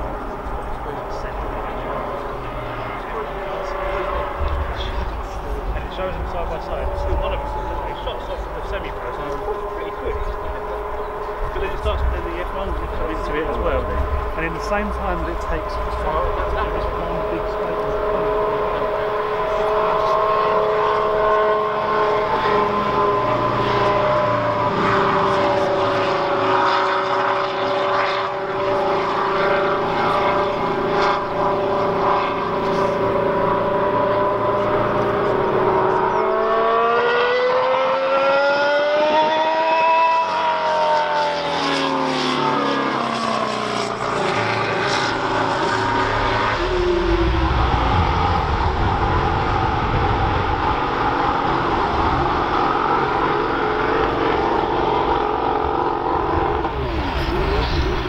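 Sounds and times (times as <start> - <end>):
racing car engine running hard: 0.0 - 58.0.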